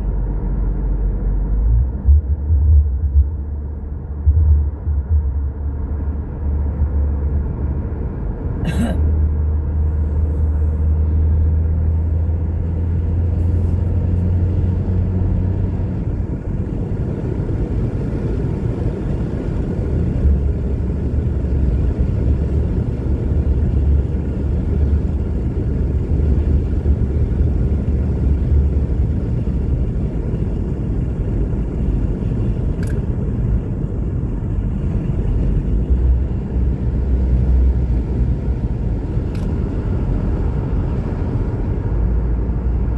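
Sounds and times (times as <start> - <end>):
car engine rumble: 0.0 - 42.9
road noise: 0.0 - 42.9.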